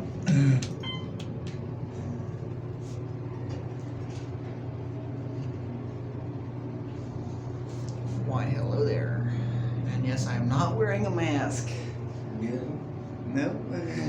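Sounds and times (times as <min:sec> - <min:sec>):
elevator pump motor humming: 0:00.0 - 0:14.0.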